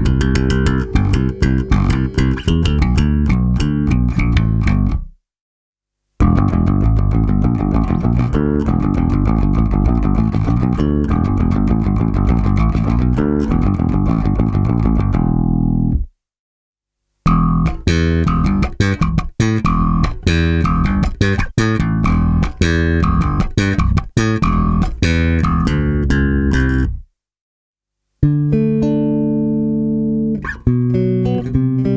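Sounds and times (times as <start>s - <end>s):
bass guitar plucked notes: 0.0s - 5.1s, 6.2s - 16.1s, 17.3s - 27.0s, 28.2s - 31.9s.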